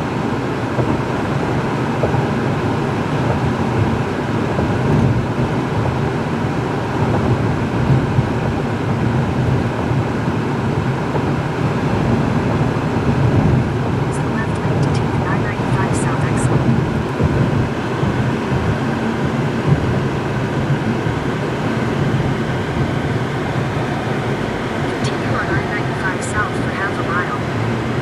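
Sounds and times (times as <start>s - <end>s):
car driving on highway: 0.0s - 28.0s.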